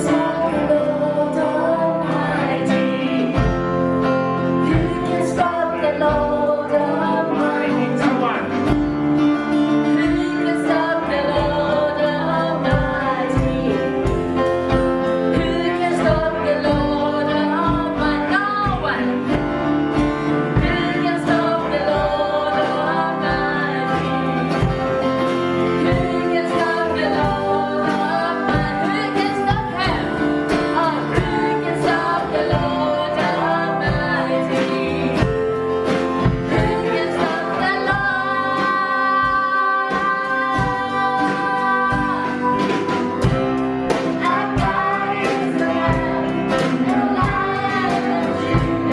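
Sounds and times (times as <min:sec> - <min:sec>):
group singing worship song: 0:00.0 - 0:48.9
instrumental accompaniment with beat: 0:00.0 - 0:48.9.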